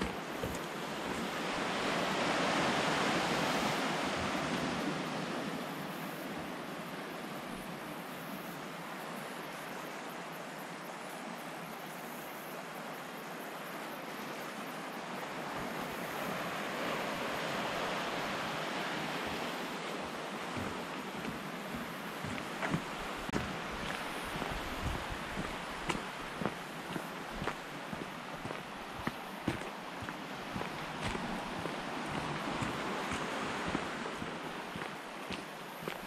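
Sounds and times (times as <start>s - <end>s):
sea waves washing on shore: 0.0s - 36.0s.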